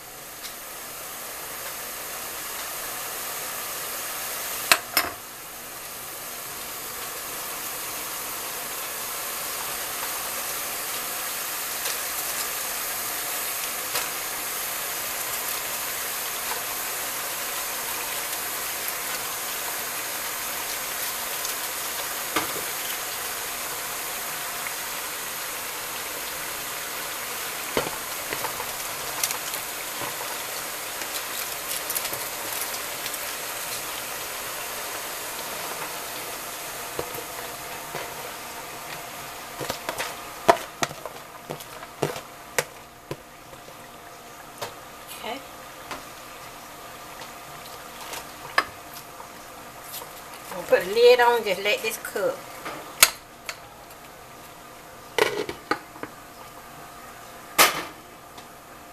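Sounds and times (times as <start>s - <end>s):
cabbage sizzling in a pot: 0.0s - 58.9s.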